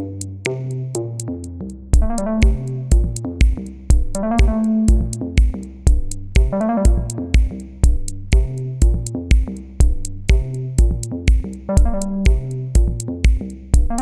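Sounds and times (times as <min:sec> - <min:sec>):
electronic music with drum machine: 0:00.0 - 0:14.0.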